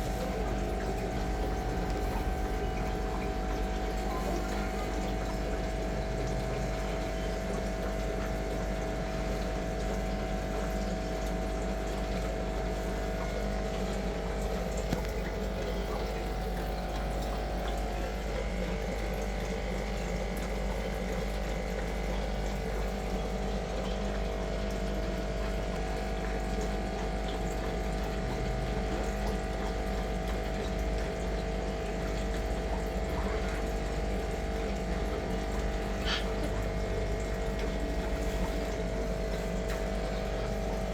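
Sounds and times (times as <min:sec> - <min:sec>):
steady machine hum: 0:00.0 - 0:40.9.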